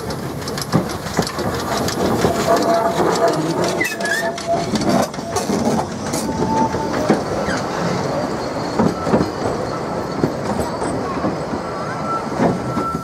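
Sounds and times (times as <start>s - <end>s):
train wheels clicking over rail joints: 0.0s - 13.0s
wheel squeal: 1.3s - 13.0s.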